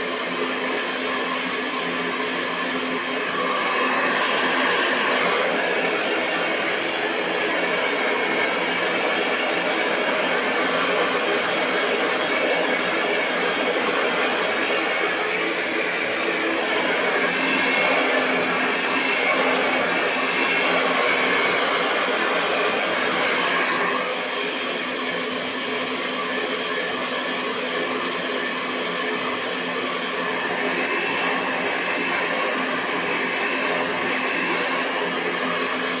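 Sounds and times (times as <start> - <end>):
hair dryer blowing: 0.0 - 36.0.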